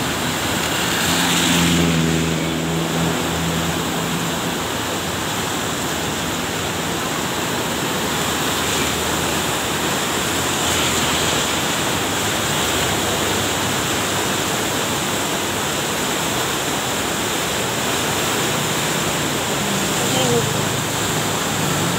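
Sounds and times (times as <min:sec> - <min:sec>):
river rushing in flood: 0:00.0 - 0:21.9.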